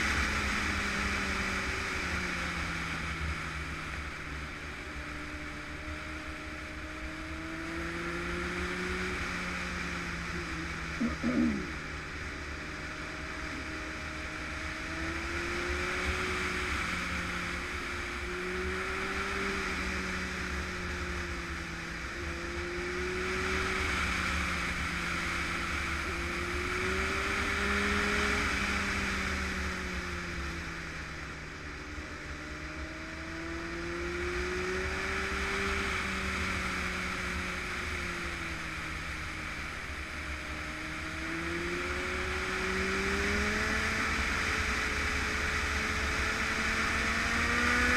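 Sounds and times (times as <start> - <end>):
motorcycle engine at speed: 0.0 - 47.9.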